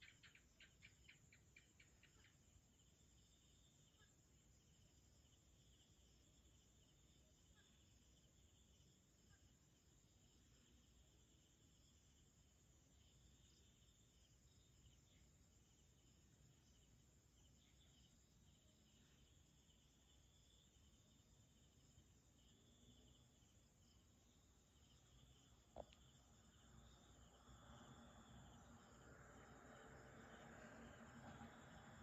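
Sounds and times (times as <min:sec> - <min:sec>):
night insects chirring: 0:00.0 - 0:32.0.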